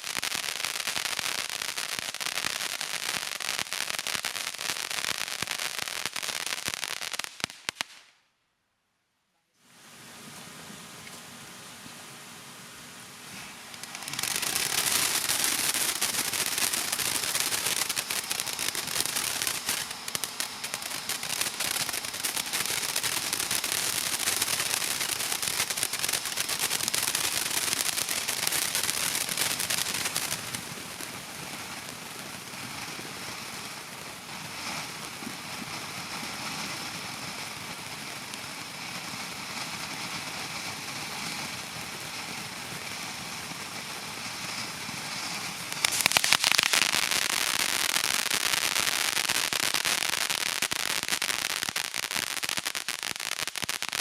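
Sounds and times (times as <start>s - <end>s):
fireworks crackling: 0.0s - 8.3s, 9.7s - 54.0s
steady hiss: 0.0s - 8.4s, 9.0s - 54.0s.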